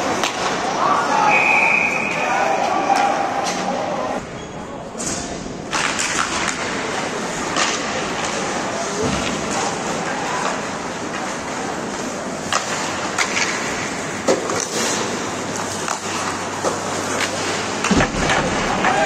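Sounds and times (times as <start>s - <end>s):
hockey sticks and puck clacking: 0.0s - 3.8s, 5.0s - 19.0s.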